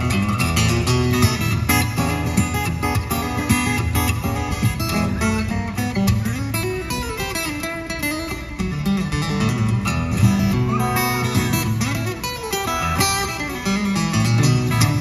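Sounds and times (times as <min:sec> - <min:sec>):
strummed blues acoustic guitar: 0:00.0 - 0:15.0.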